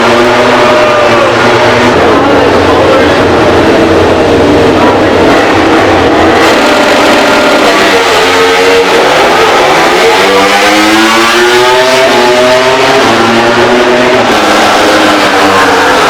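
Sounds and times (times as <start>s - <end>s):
racing motorcycle engine revving: 0.0s - 16.0s.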